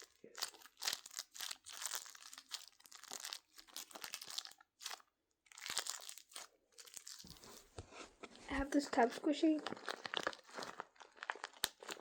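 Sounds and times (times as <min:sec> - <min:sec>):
squishy crinkling and crunching: 0:00.0 - 0:12.0.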